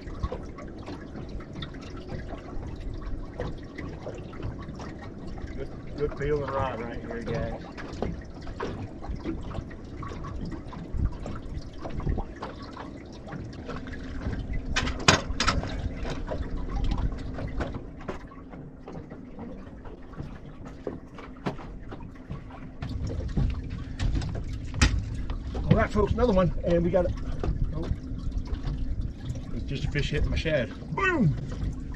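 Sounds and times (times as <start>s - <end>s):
water splashing and trickling: 0.0s - 31.9s.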